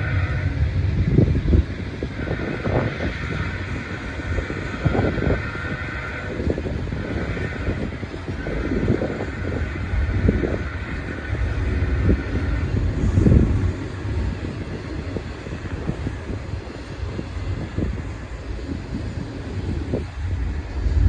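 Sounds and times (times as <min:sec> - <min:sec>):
freight train rumbling past: 0:00.0 - 0:21.0
wind buffeting microphone: 0:00.0 - 0:21.0
train thumps: 0:01.0 - 0:21.0.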